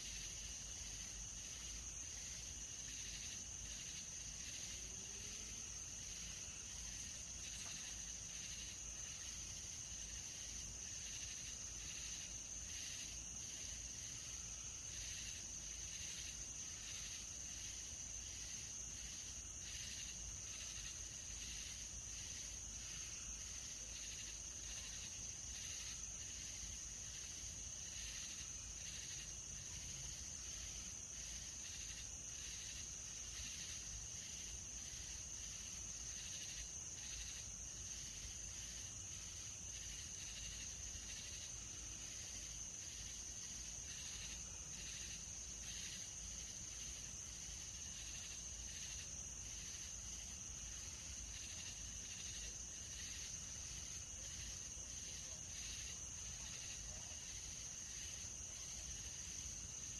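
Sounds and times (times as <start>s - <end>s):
insects trilling and chirping: 0.0s - 59.9s.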